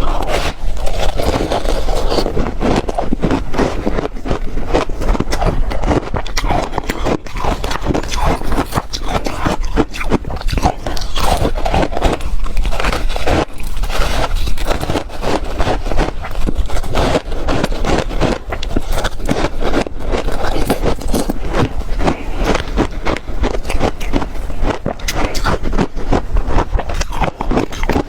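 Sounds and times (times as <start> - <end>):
ice crunching being chewed: 0.0 - 28.0.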